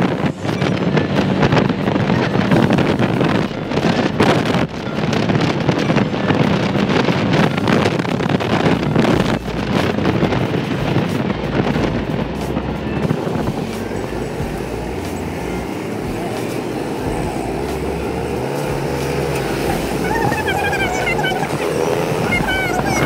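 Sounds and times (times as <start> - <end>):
road noise: 0.0 - 23.0
vehicle running: 0.0 - 23.0
wind buffeting microphone: 0.0 - 23.0.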